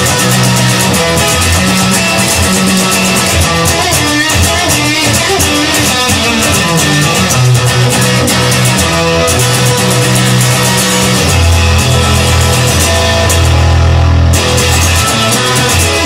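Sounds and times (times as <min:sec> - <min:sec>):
instrumental band music with guitar: 0:00.0 - 0:16.0.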